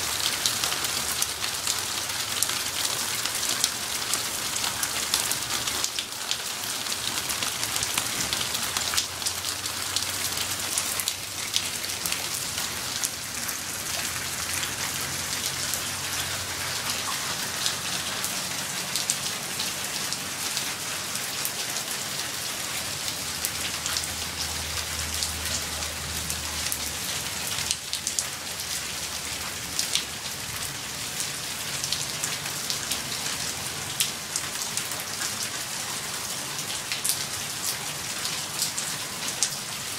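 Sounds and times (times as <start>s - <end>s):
raindrops ticking: 0.0s - 20.8s, 21.4s - 35.5s
steady rain falling: 0.0s - 39.9s.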